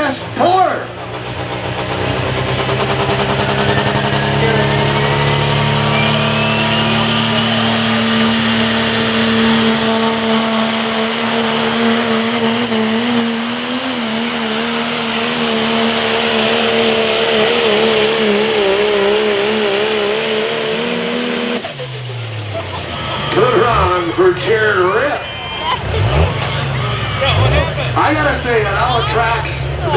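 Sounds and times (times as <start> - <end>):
pickup truck engine at full throttle: 0.0 - 29.9.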